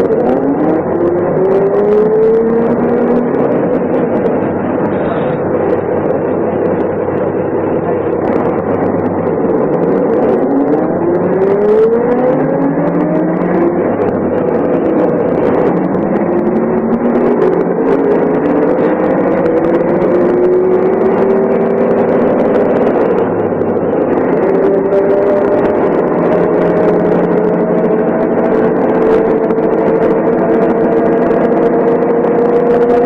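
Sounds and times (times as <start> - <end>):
bus diesel engine accelerating: 0.0 - 33.0.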